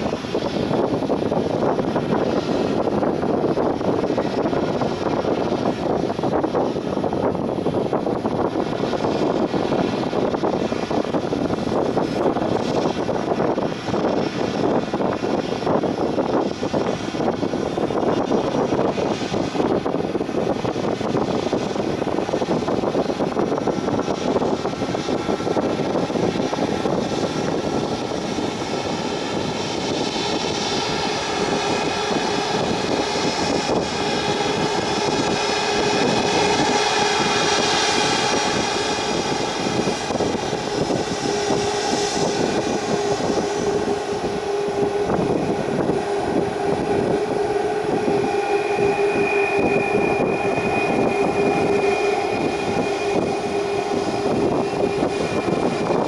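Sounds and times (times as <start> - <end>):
higher engine whine: 0.0 - 56.0
jet engines roaring: 0.0 - 56.0.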